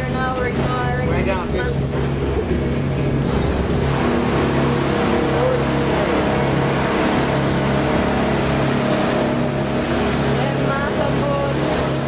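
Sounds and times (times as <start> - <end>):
music playing: 0.0 - 11.4
boat engine drone: 0.0 - 12.0
rush of churning wake: 0.0 - 12.0.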